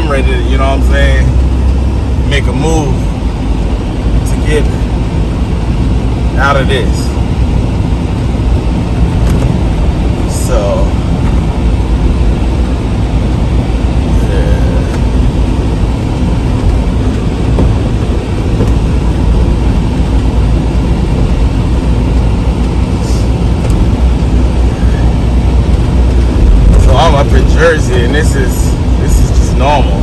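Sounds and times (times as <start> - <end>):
truck engine and road rumble: 0.0 - 30.0.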